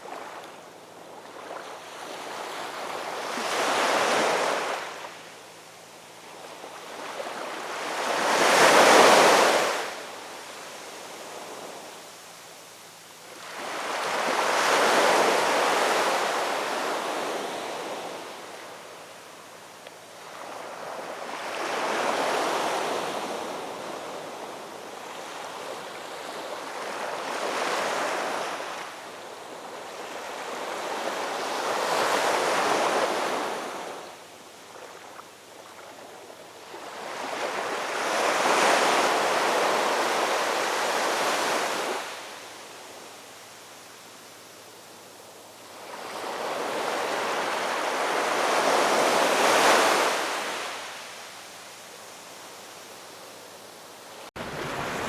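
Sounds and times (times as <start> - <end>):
ocean waves breaking on shore: 0.0 - 5.4, 6.2 - 12.0, 13.0 - 55.0.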